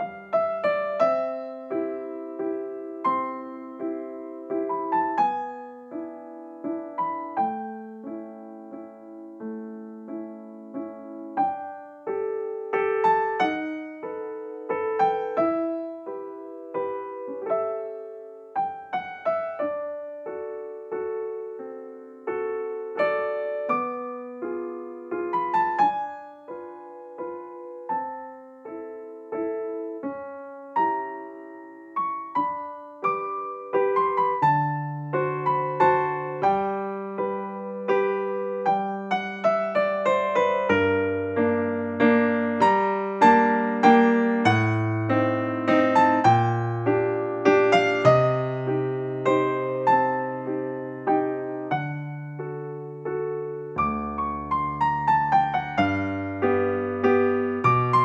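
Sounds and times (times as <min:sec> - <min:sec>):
keyboard melody: 0:00.0 - 0:58.0.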